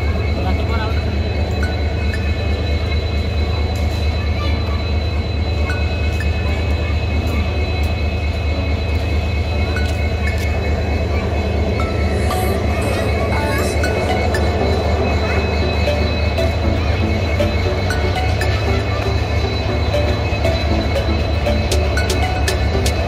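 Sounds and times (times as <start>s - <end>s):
diesel locomotive engine drone: 0.0s - 23.0s
high whine: 0.0s - 23.0s.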